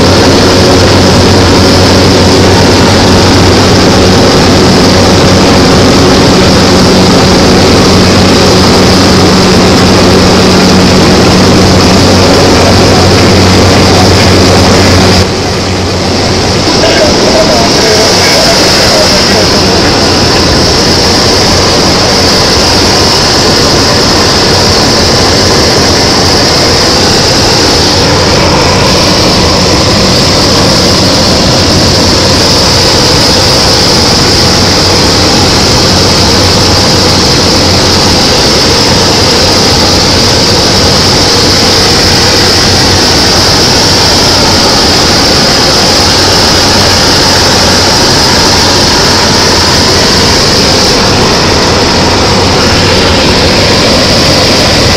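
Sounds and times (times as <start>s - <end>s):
small aircraft engine drone: 0.0s - 54.9s.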